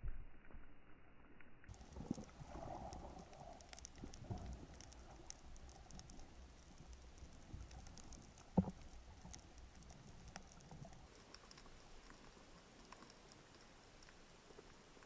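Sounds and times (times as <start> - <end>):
underwater crackling clicks: 1.7 - 15.0.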